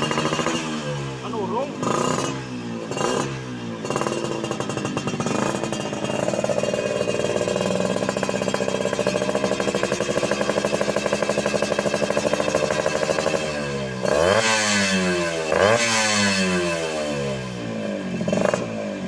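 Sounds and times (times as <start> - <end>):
two-stroke engine revving: 0.0 - 19.0.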